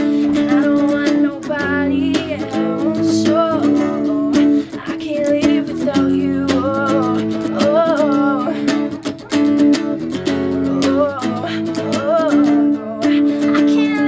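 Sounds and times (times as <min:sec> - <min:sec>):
electric guitar strumming chords: 0:00.0 - 0:14.0.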